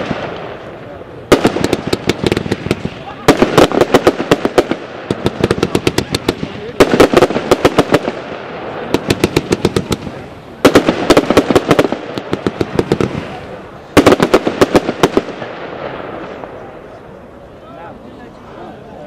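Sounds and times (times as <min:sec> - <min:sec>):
fireworks cake firing bangs: 0:00.0 - 0:16.8.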